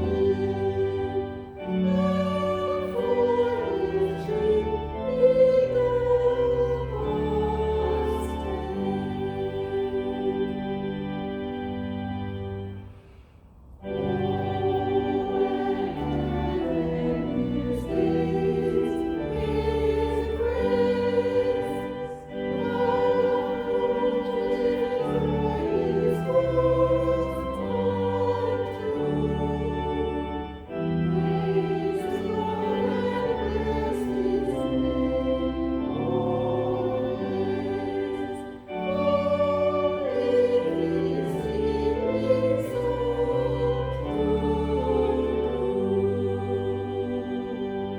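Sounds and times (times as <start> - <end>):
choir singing: 0.0 - 13.2, 13.8 - 47.9
organ chords: 0.0 - 47.9.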